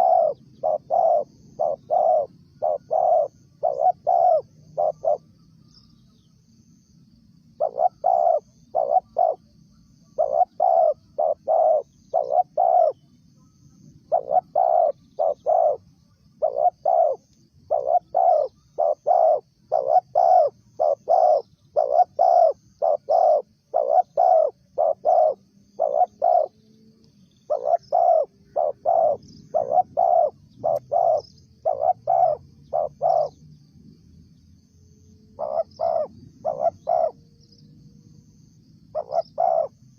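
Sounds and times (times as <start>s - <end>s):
dove cooing: 0.0s - 5.4s, 7.5s - 9.5s, 10.1s - 33.4s, 35.2s - 37.4s, 38.9s - 39.9s
faint bird chirps: 0.0s - 39.9s.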